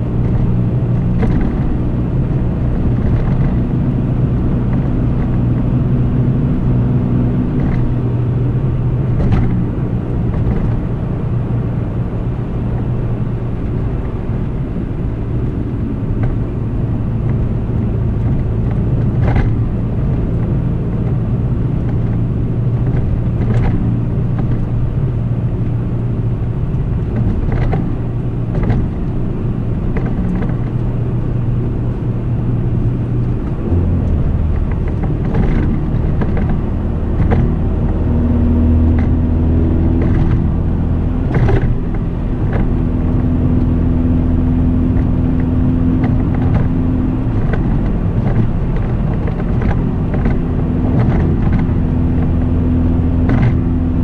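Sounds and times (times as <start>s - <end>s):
car engine drone in cabin: 0.0s - 54.0s
road noise: 0.0s - 54.0s.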